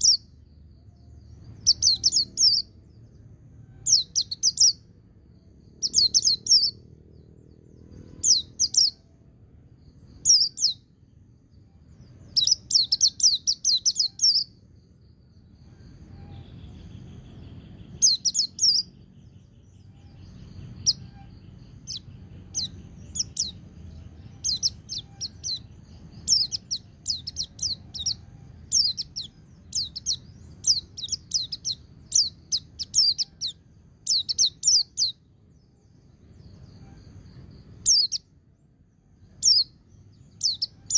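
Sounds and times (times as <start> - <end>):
bird singing trilled phrases: 0.0 - 40.9
low background rumble: 0.0 - 40.9.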